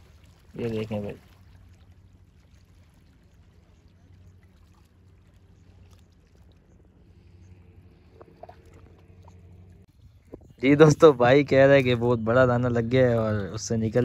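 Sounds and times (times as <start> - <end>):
distant boat engine hum: 0.0 - 14.0
water washing: 0.0 - 14.0.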